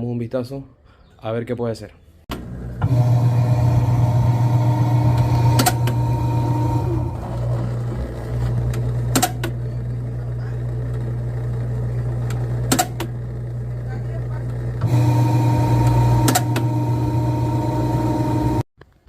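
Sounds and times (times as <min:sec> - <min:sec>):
washing machine humming: 0:02.3 - 0:18.7.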